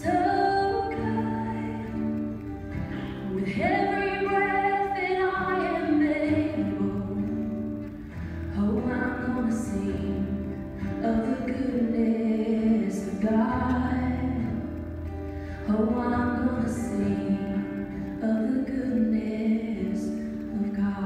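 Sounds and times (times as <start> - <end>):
acoustic guitar: 0.0 - 21.0
woman singing slow song: 0.0 - 21.0.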